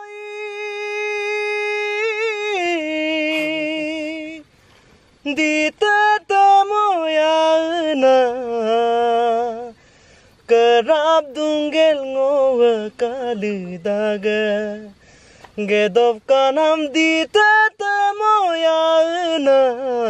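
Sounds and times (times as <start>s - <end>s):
person singing unaccompanied: 0.0s - 20.0s.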